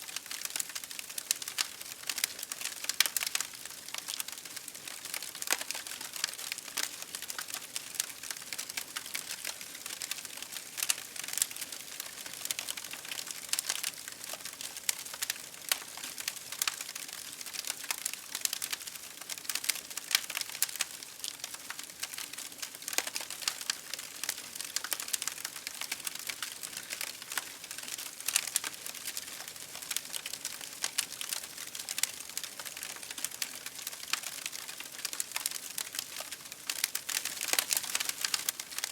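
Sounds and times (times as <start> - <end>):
campfire crackling: 0.1 - 38.9.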